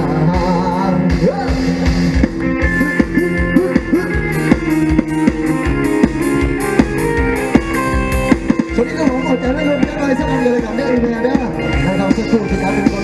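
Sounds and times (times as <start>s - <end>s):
bass: 0.0s - 13.0s
drum kit beat: 0.0s - 13.0s
plucked string lead: 0.0s - 13.0s.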